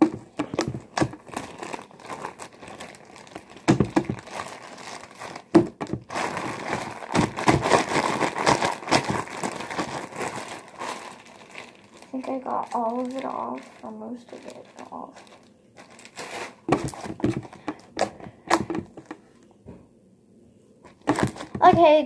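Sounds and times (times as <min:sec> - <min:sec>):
plastic bag crinkling: 0:00.0 - 0:19.2, 0:20.9 - 0:22.0.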